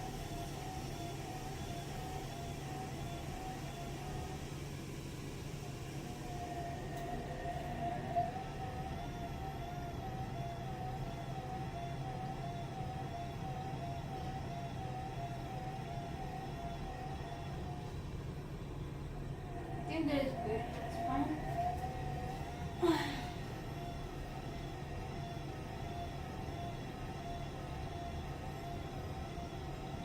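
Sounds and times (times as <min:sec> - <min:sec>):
washing machine running: 0:00.0 - 0:30.0.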